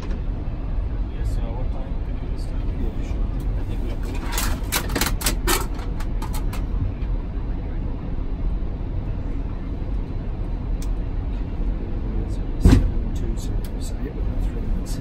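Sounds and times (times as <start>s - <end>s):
low rumble of taxiing jet: 0.0s - 15.0s.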